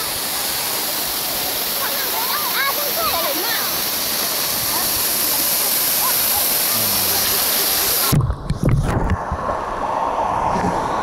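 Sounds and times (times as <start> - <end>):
waterfall rushing: 0.0 - 8.4, 9.2 - 11.0.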